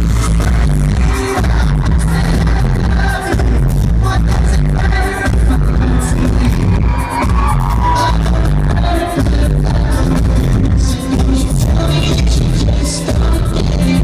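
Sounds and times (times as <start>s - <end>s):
drums: 0.0s - 14.0s
lead vocal singing: 0.0s - 14.0s.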